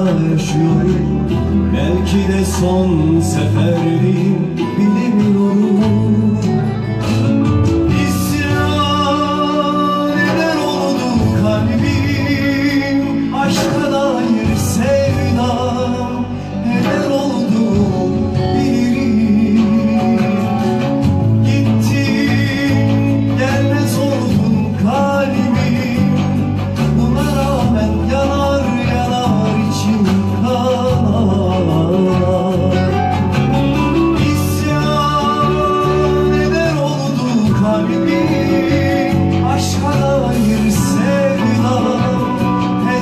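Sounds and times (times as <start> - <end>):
electronic keyboard: 0.0 - 43.0
man singing with vibrato: 0.0 - 43.0.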